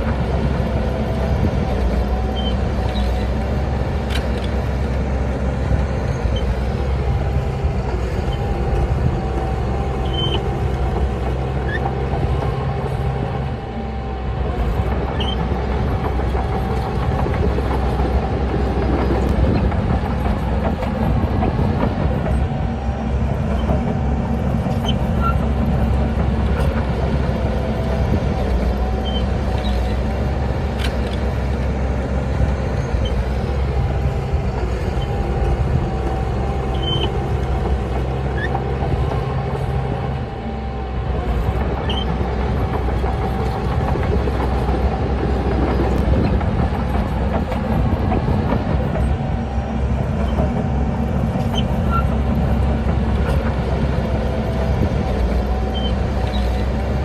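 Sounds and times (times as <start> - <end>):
diesel engine drone: 0.0 - 57.0.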